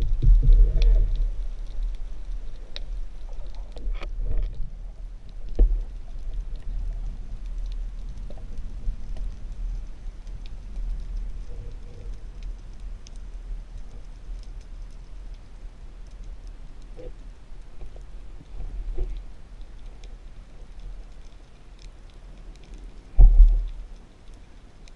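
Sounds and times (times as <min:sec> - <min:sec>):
sharp clicks and crackles: 0:00.0 - 0:24.9
underwater rumble of moving water: 0:00.0 - 0:24.9.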